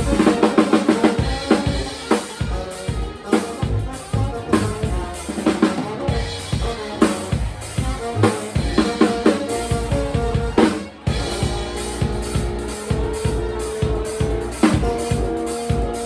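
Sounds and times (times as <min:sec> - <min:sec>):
drum kit beat: 0:00.0 - 0:16.0
live band playing: 0:00.0 - 0:16.0.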